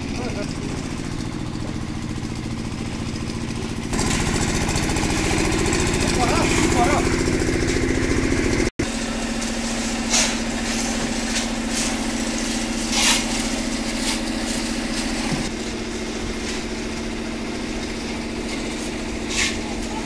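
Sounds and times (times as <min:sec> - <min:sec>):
concrete mixer engine humming: 0:00.0 - 0:20.0.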